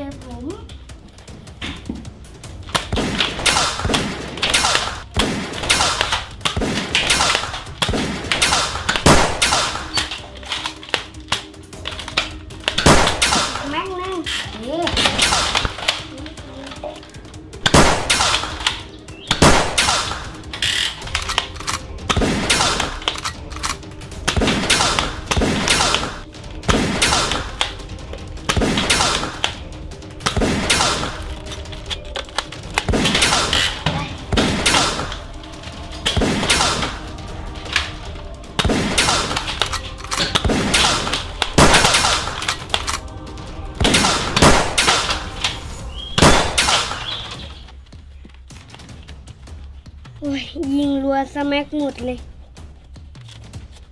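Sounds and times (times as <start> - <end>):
background music: 0.0 - 53.9.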